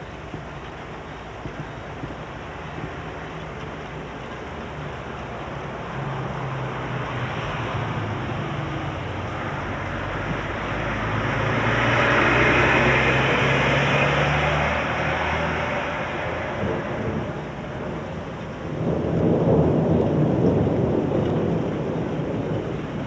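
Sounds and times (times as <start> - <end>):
wind and rain rushing: 0.0 - 23.0.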